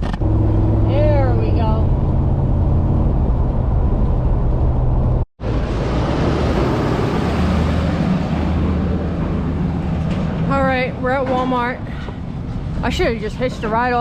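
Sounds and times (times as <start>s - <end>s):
car engine rumble: 0.0s - 13.9s.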